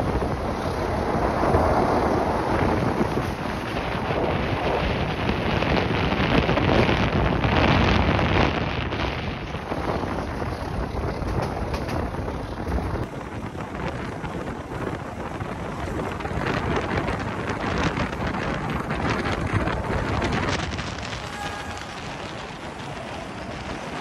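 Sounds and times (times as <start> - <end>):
moving train running noise: 0.0 - 24.0
wind buffeting microphone: 0.0 - 24.0.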